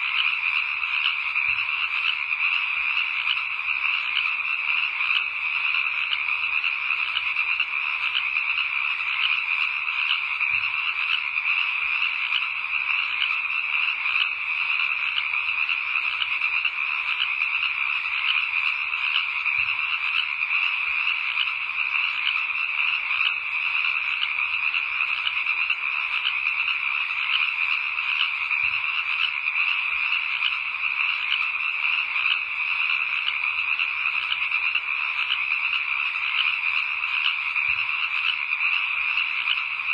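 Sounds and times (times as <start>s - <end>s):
frogs chorus: 0.0s - 39.9s.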